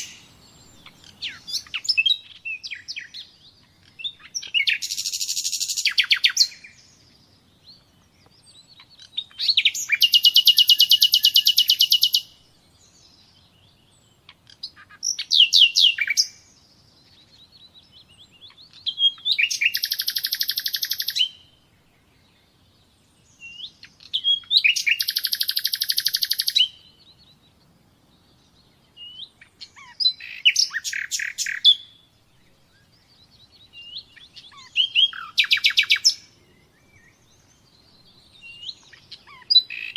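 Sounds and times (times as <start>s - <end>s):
songbird trilling: 0.0s - 21.6s, 23.4s - 27.6s, 28.2s - 39.9s.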